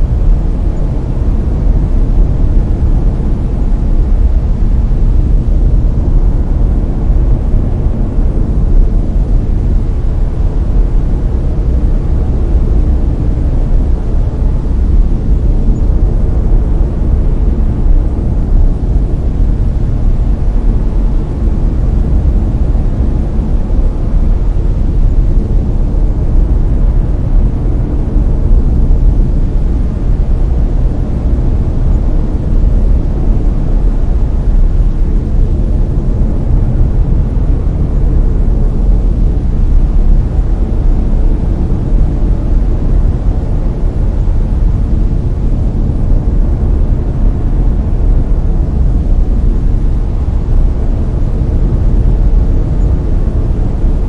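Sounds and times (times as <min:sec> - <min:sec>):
brown noise: 0:00.0 - 0:54.0.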